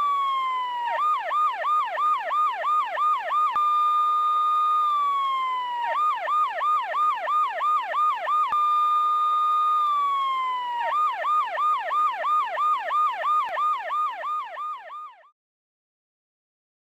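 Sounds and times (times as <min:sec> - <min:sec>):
police siren wailing and yelping: 0:00.0 - 0:15.3.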